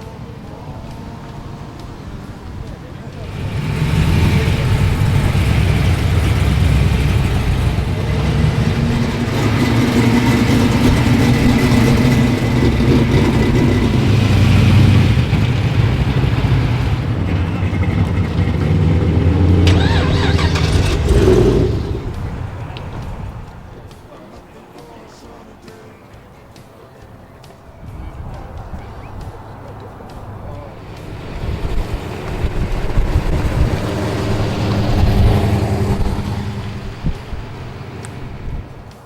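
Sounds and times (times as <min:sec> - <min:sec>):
vehicle engine running low: 0:00.0 - 0:39.0.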